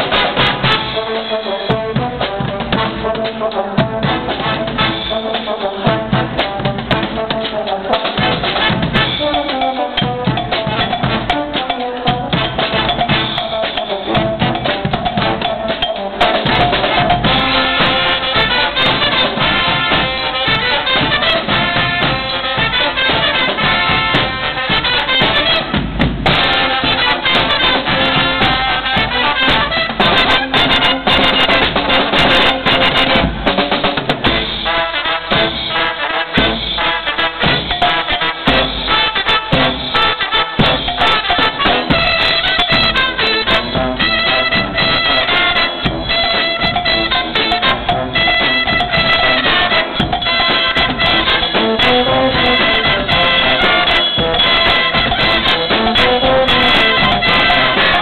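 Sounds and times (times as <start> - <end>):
brass band playing: 0.0 - 58.0
drum set: 0.0 - 58.0.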